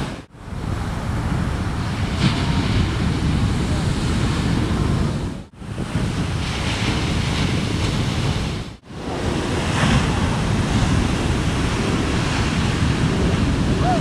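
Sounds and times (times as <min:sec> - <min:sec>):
ocean waves breaking: 0:00.0 - 0:14.0
wind buffeting microphone: 0:00.0 - 0:14.0.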